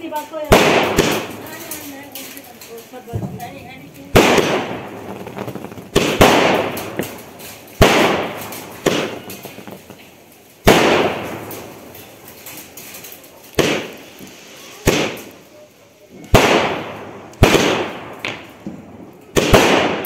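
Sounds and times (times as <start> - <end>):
crackle of bursting stars: 0.0 - 20.0
firework bangs: 0.0 - 20.0.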